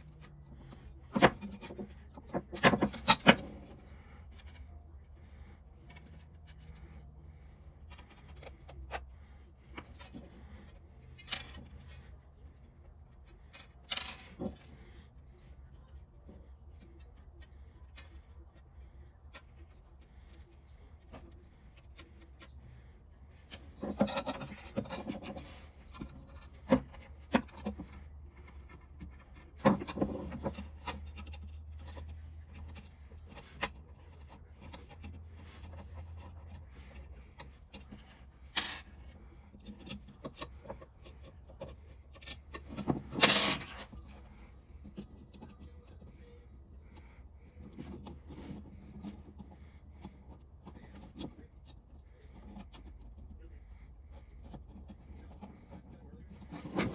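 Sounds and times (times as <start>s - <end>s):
hand rubbing and scraping: 0.0s - 56.9s
low steady hum: 0.0s - 56.9s.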